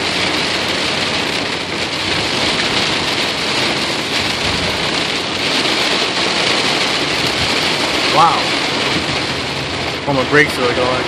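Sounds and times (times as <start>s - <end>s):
water rushing around moving car: 0.0s - 11.0s.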